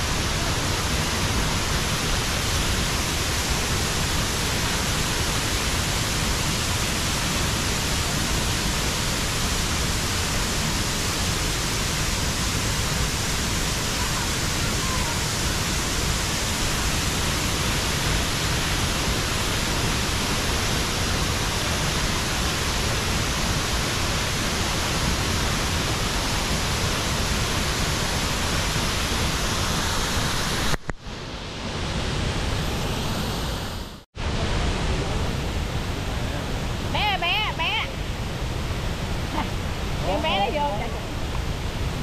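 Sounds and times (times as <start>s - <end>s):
waterfall roaring: 0.0s - 42.0s.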